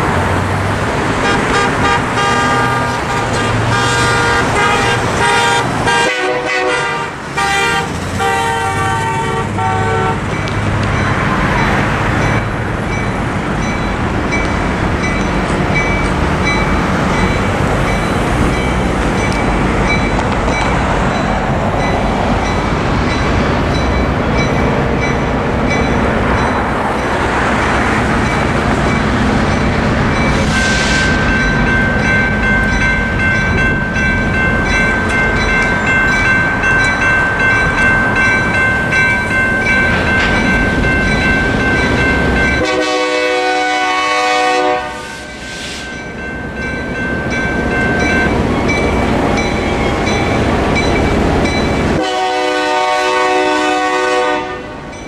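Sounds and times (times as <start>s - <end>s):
diesel locomotives rumbling: 0.0s - 55.0s
crossing bell ringing: 1.2s - 55.0s.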